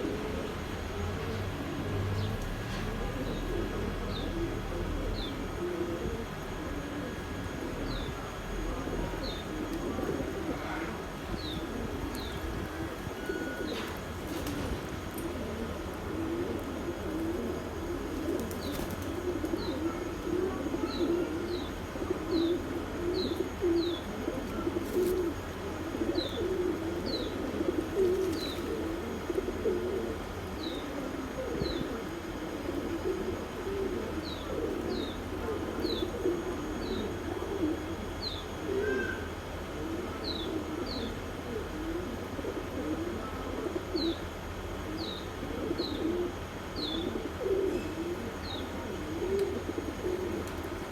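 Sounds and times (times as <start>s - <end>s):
doves cooing: 0.0s - 50.9s.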